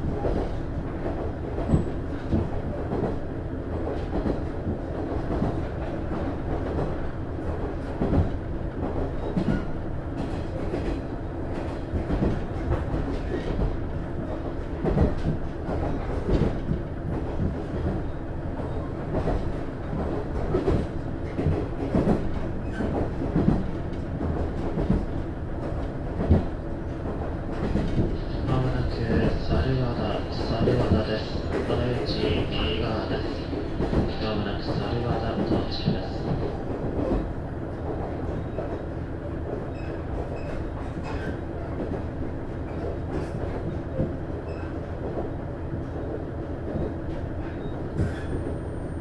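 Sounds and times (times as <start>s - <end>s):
railcar engine and wheels rumbling: 0.0s - 49.0s.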